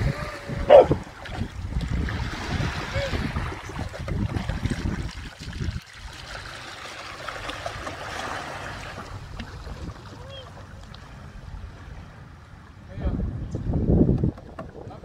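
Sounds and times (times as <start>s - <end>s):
wind rumbling on microphone: 0.0s - 6.5s, 7.6s - 15.0s
seawater lapping at shoreline: 0.0s - 15.0s.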